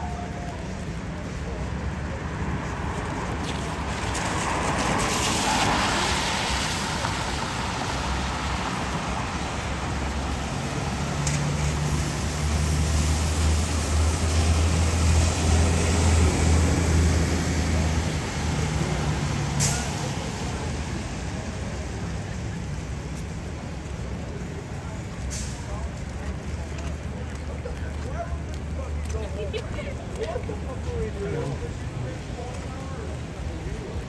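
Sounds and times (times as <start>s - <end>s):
heavy vehicle engine humming: 0.0s - 34.0s.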